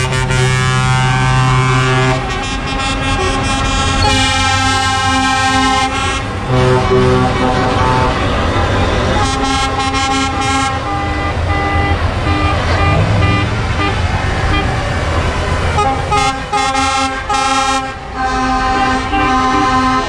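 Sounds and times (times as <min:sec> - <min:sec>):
truck horn blasts: 0:00.0 - 0:15.0, 0:15.7 - 0:20.0
diesel truck engine rumble: 0:00.0 - 0:20.0.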